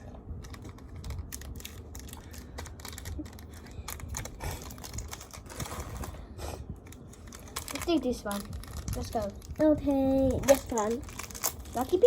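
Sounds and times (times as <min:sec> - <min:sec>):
plastic packets torn open: 0:00.4 - 0:06.2, 0:06.8 - 0:09.6, 0:10.2 - 0:12.0
plastic wrappers crackling: 0:00.4 - 0:06.2, 0:06.8 - 0:12.0.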